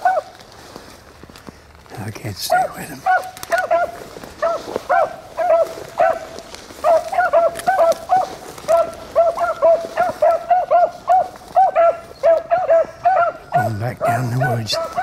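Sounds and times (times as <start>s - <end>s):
dogs baying: 0.0s - 0.3s, 2.5s - 15.0s.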